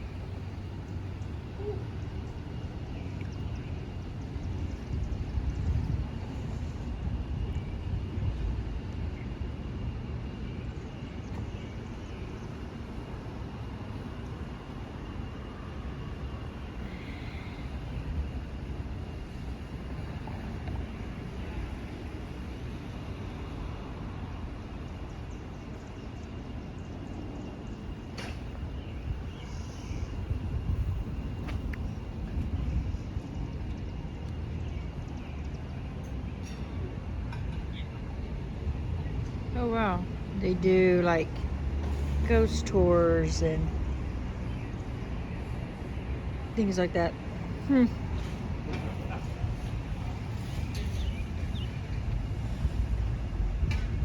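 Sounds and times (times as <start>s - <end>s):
low uneven street rumble: 0.0s - 54.0s.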